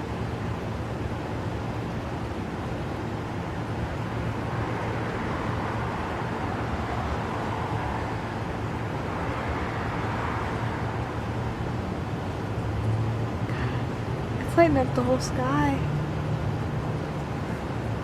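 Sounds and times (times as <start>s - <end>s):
city traffic: 0.0s - 18.0s.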